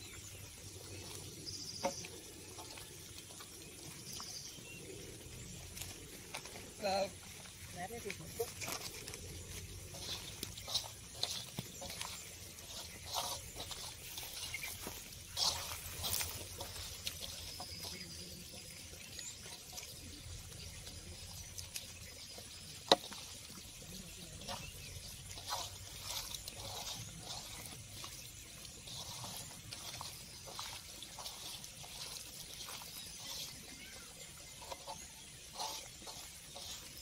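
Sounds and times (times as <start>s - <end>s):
water trickling and splashing: 0.0s - 37.0s.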